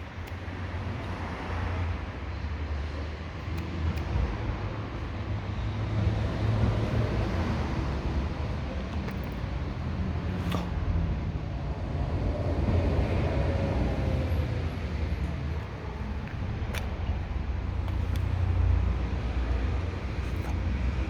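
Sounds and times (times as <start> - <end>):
low rumble of outdoor noise: 0.0 - 21.0.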